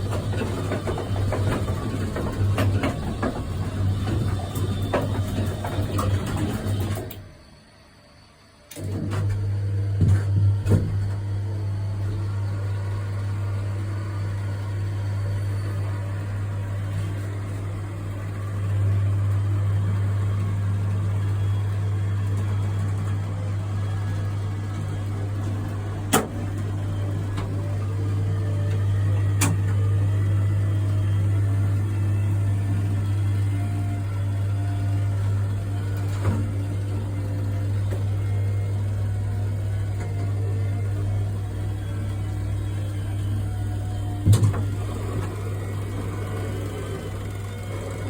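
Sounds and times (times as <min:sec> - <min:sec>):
dome drive motor humming: 0:00.0 - 0:48.0.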